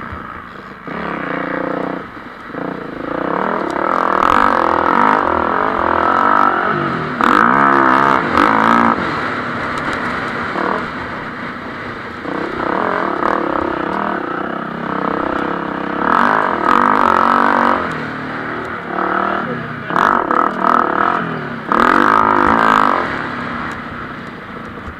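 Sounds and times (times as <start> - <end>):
motocross bike engines revving: 0.0 - 24.9.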